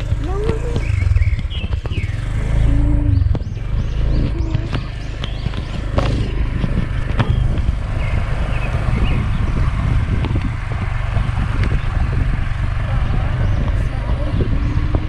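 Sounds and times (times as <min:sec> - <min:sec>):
motorcycle engine rumble: 0:00.0 - 0:15.0.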